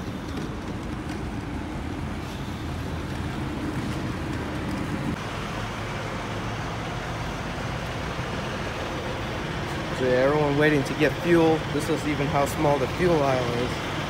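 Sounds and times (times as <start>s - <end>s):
diesel truck engines idling: 0.0s - 14.0s.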